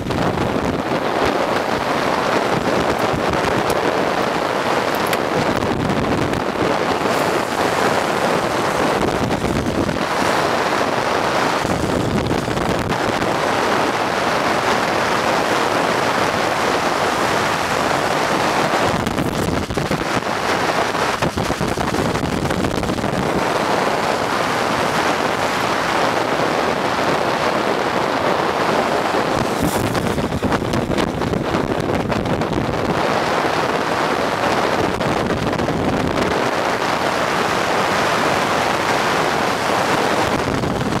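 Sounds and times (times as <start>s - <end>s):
road noise: 0.0s - 41.0s
wind rushing over microphone: 0.0s - 41.0s.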